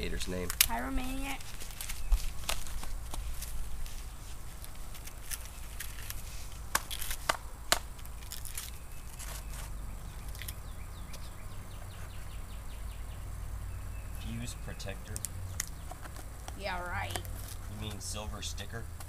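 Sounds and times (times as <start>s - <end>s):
handling noises: 0.0s - 12.4s, 14.8s - 18.1s.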